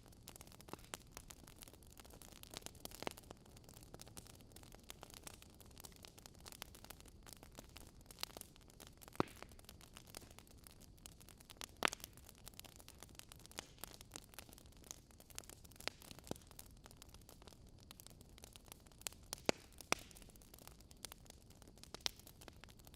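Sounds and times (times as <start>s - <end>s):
fire crackling: 0.0s - 22.9s.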